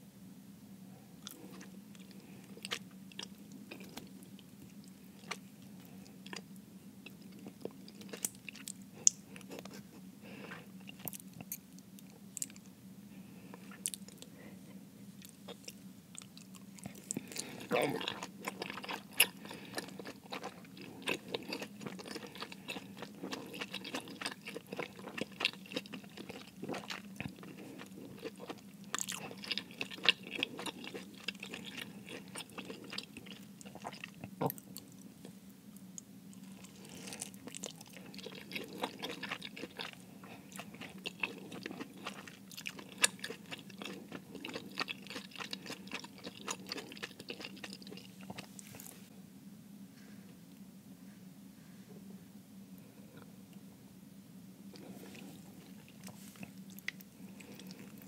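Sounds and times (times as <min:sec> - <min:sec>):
chewing dumplings: 0:01.2 - 0:12.8, 0:15.1 - 0:49.1, 0:54.6 - 0:58.0.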